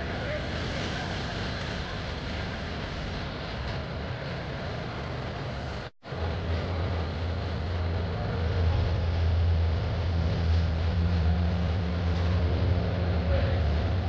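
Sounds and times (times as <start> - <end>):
low engine drone: 0.0 - 14.0
rushing noise: 0.0 - 14.0.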